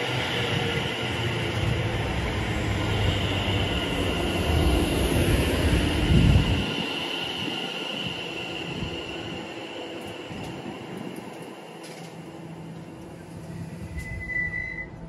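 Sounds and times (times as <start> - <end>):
train passing rumble: 0.0 - 15.0.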